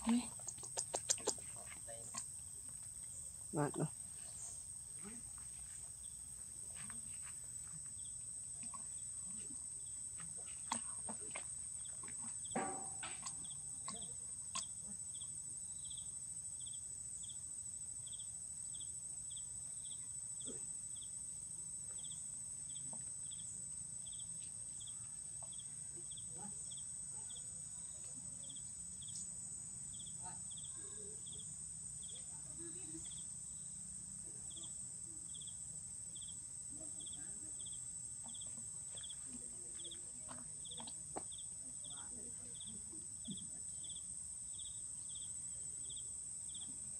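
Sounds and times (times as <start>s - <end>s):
insects droning and chirping: 0.0s - 46.9s.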